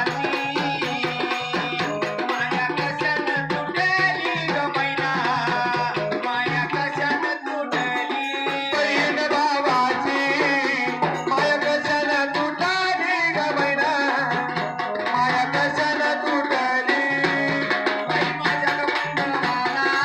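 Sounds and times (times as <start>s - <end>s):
electronic keyboard: 0.0s - 20.0s
hand-drum rhythm: 0.0s - 20.0s
person singing folk song: 0.0s - 20.0s.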